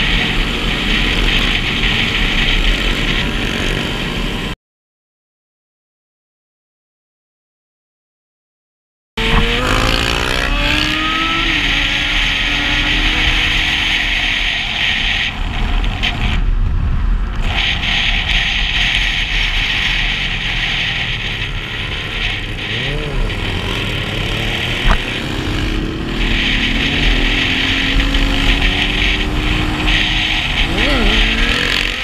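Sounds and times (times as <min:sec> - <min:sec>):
motorcycle engine hum: 0:00.0 - 0:04.6, 0:09.2 - 0:32.0
passing motorcycle engines: 0:00.0 - 0:04.6, 0:09.2 - 0:32.0
wind and road noise: 0:00.0 - 0:04.6, 0:09.2 - 0:32.0.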